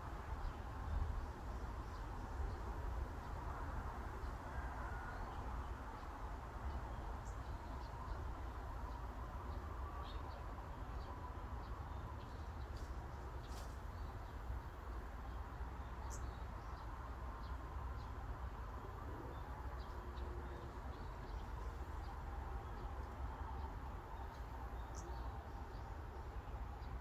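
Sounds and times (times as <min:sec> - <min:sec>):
steady breeze with low rumble: 0:00.0 - 0:27.0.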